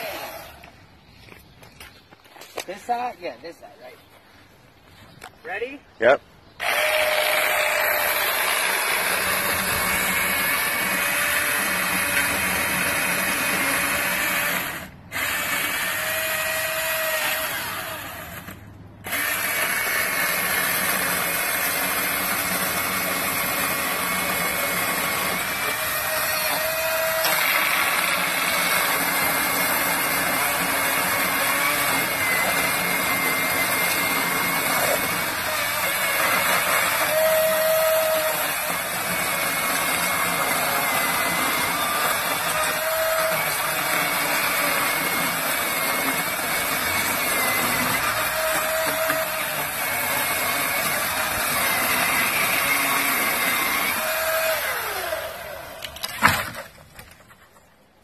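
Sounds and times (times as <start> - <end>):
chainsaw cutting wood: 0.0 - 0.8, 6.6 - 56.7.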